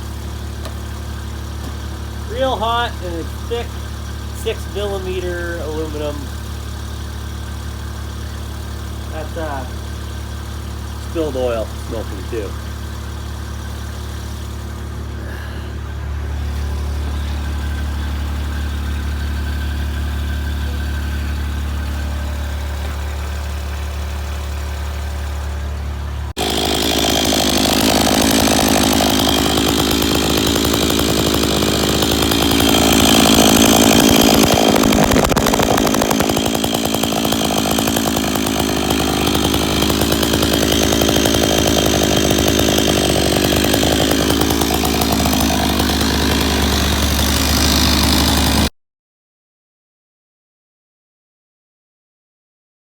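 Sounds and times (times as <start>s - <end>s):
chainsaw idling and revving: 0.0s - 48.7s.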